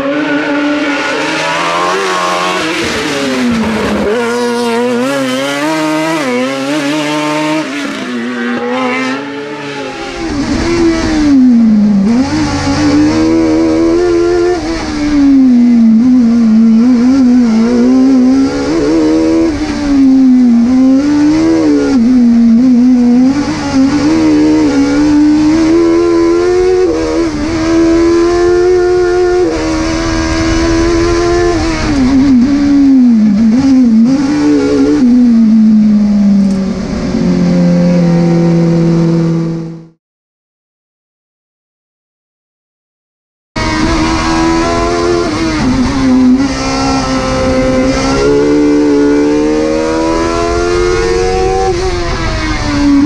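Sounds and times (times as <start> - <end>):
race car engine revving: 0.0 - 40.0, 43.6 - 53.0.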